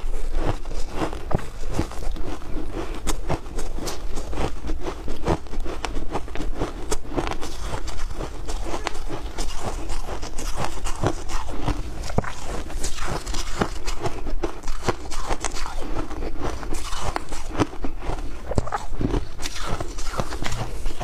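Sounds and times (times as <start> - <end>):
shaved ice being chewed: 0.0 - 21.0.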